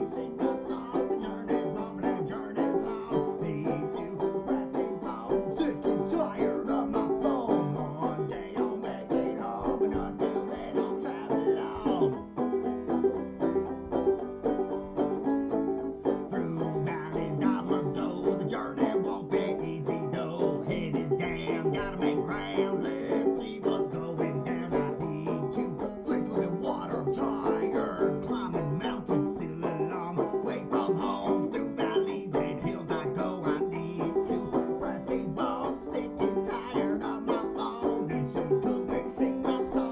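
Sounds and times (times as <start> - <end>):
fast banjo picking: 0.0 - 39.9
guitar: 0.0 - 39.9.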